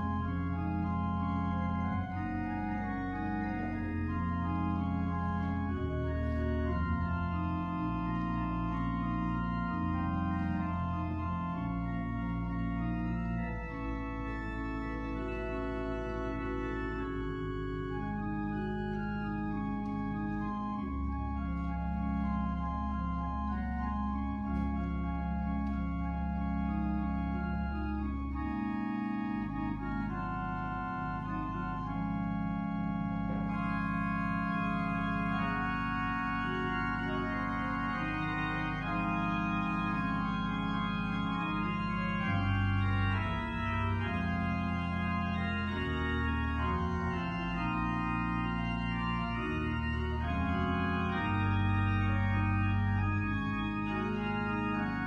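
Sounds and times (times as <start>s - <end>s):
organ playing slow chords: 0.0s - 55.0s.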